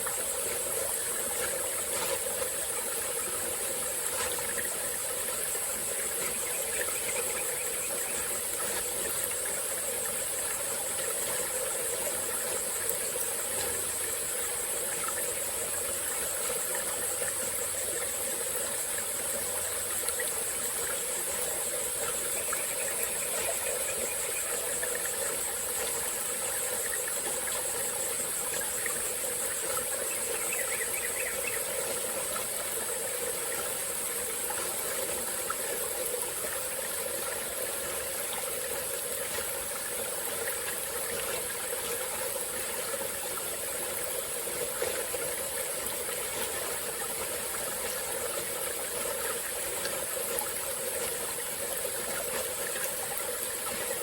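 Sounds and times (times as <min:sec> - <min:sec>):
high-pitched insect chorus: 0:00.0 - 0:54.0
stream trickling: 0:00.0 - 0:54.0.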